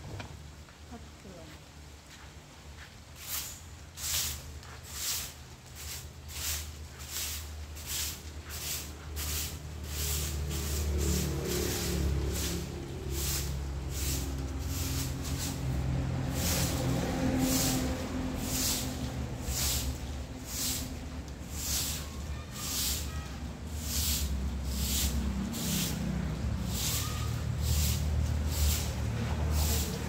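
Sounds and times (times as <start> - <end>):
broom sweeping dry leaves on tiles: 2.7 - 30.0.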